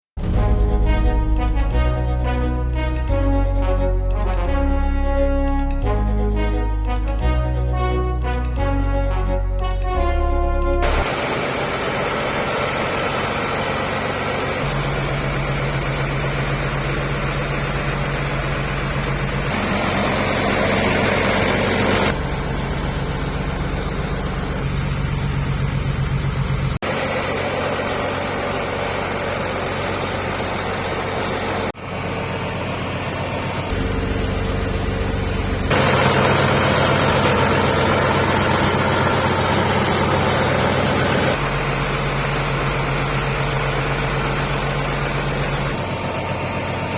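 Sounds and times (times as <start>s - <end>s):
tractor diesel engine running: 0.1s - 46.9s.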